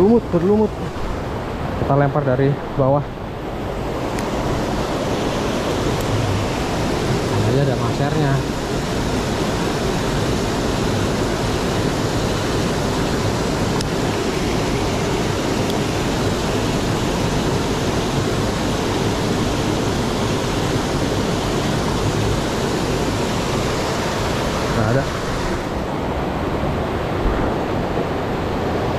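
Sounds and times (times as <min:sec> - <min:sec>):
river water rushing over rocks: 0:00.0 - 0:28.9.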